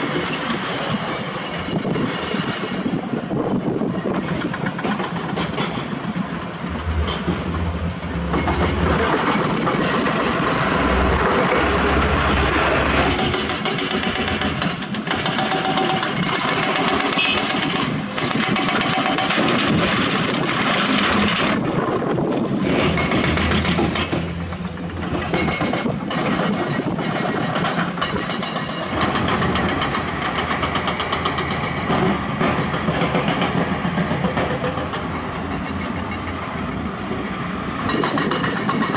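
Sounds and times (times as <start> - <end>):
heavy diesel engines rumbling: 0.0 - 38.9.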